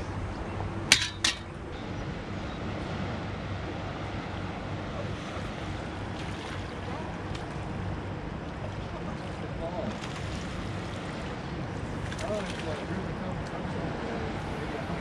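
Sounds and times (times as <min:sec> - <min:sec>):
churning water rushing: 0:00.0 - 0:15.0.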